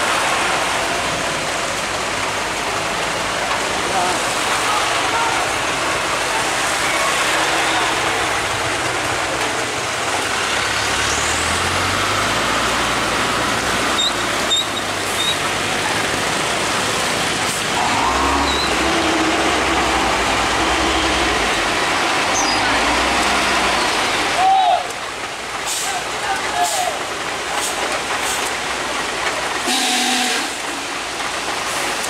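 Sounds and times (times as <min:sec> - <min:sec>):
heavy truck engines running: 0:00.0 - 0:32.0
road noise hiss: 0:00.0 - 0:32.0.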